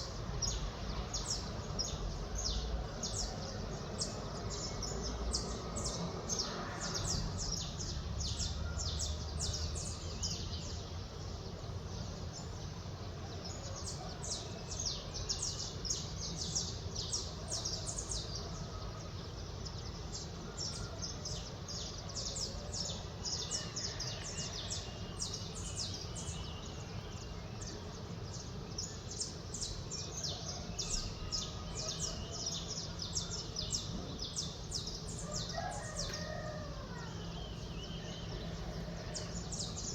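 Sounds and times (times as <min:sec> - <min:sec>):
distant city rumble: 0:00.0 - 0:39.9.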